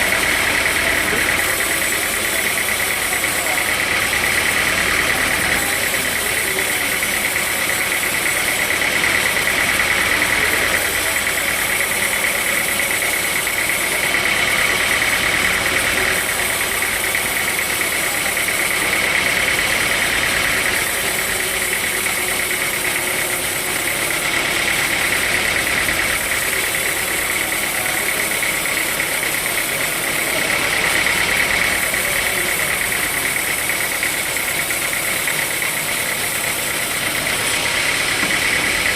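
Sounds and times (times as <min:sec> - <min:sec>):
machine noise: 0:00.0 - 0:38.9
sawmill saw whining: 0:00.0 - 0:38.9.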